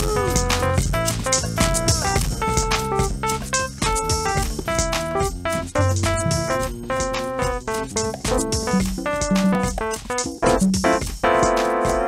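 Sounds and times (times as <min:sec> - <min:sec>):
drum-kit groove: 0:00.0 - 0:12.0
melodic instrument notes: 0:00.0 - 0:12.0.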